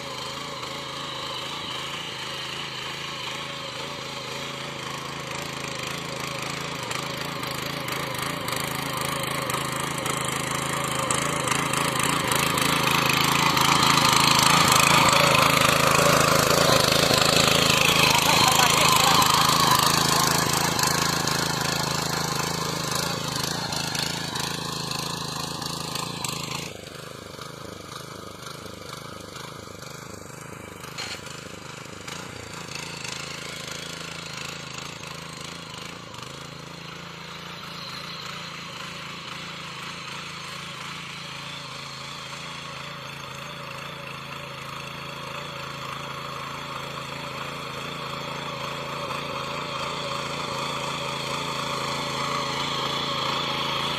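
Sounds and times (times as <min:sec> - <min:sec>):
tiller engine running: 0:00.0 - 0:53.9.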